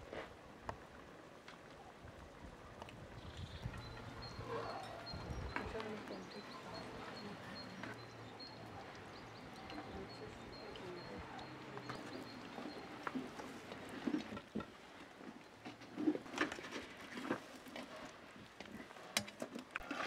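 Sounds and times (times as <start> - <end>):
faint outdoor hum: 0.1 - 19.0.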